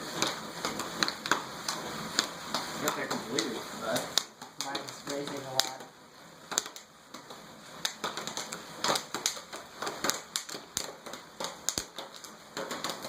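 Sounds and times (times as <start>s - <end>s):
popcorn popping in a pan: 0.0s - 13.0s.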